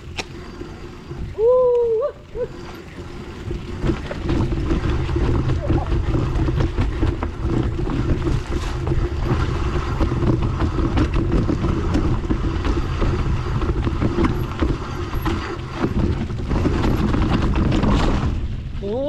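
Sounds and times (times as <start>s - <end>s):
mountain bike rumbling and rattling: 0.0s - 19.0s
wind buffeting microphone: 0.0s - 19.0s.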